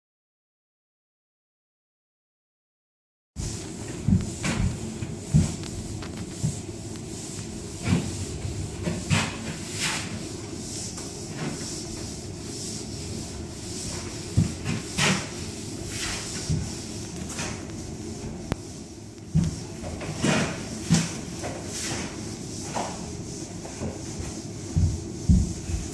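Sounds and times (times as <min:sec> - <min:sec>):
steady low hum: 0:03.4 - 0:25.9.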